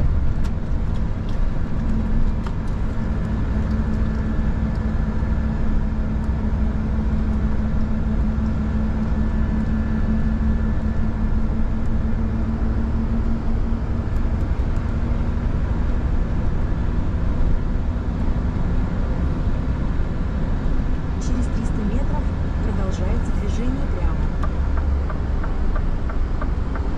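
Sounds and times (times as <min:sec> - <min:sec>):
road noise: 0:00.0 - 0:26.9
truck diesel engine droning: 0:00.0 - 0:26.9.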